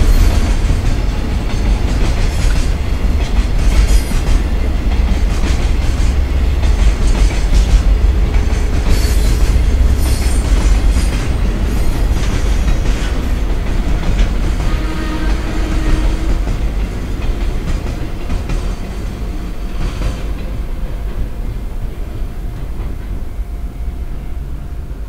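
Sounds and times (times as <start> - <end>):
low train rumble: 0.0 - 25.0
train wheels clickety-clack: 0.0 - 25.0.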